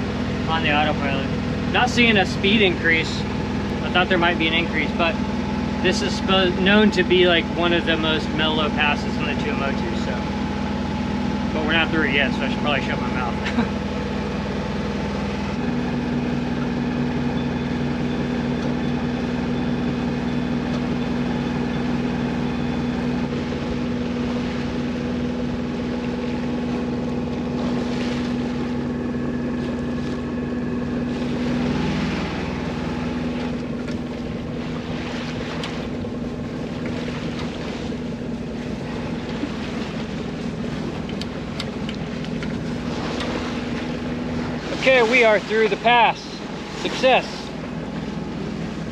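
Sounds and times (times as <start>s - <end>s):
boat engine running: 0.0s - 48.9s
water rushing along hull: 0.0s - 48.9s.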